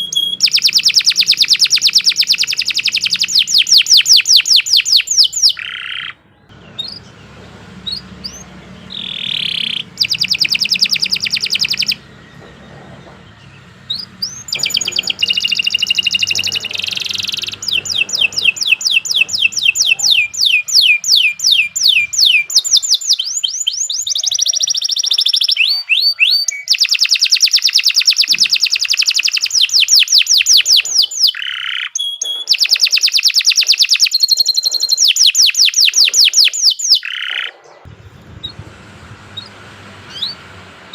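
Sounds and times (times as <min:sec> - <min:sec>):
canary singing trills: 0:00.0 - 0:38.6, 0:39.3 - 0:40.5.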